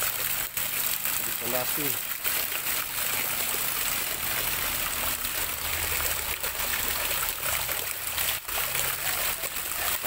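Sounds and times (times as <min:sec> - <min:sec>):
water gushing and splashing on paving: 0:00.0 - 0:10.0.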